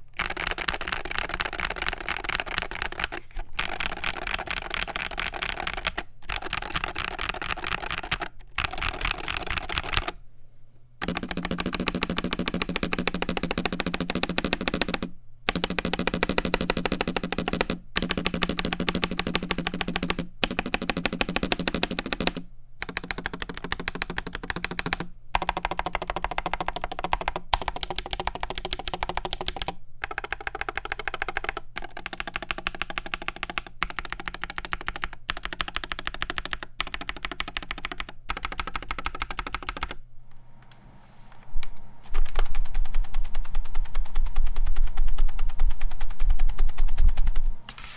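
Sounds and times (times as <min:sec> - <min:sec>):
fast keyboard typing: 0:00.0 - 0:10.2, 0:11.0 - 0:40.0, 0:42.1 - 0:47.5.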